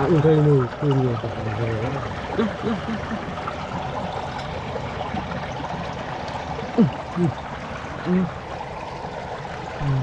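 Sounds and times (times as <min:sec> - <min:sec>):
water trickling over stones: 0:00.0 - 0:10.0.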